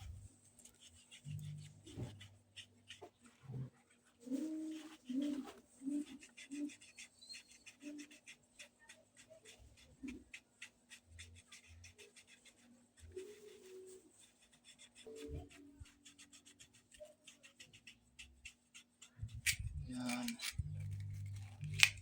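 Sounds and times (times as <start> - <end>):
filing plastic pipe: 0.0 - 22.0.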